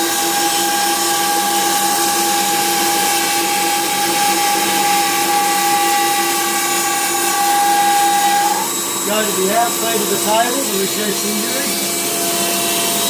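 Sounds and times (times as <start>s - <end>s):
bandsaw whining through wood: 0.0s - 13.0s
dust extractor running: 0.0s - 13.0s.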